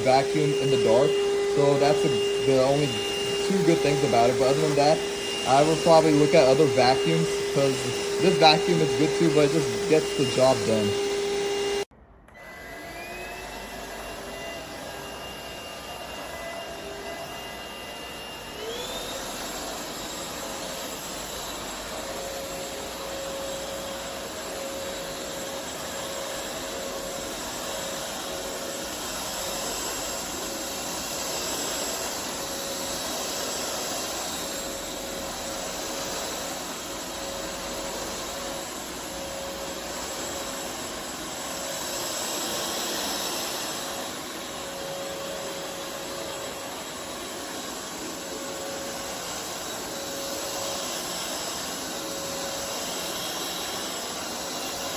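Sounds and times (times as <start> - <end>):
vacuum motor whining: 0.0 - 54.9.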